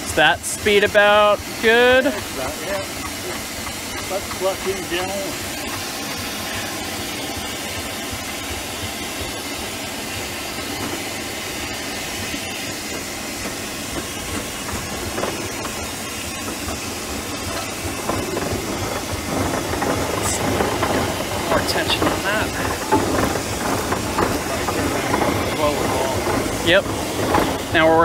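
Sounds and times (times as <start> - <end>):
steam engine hissing: 0.0 - 28.0.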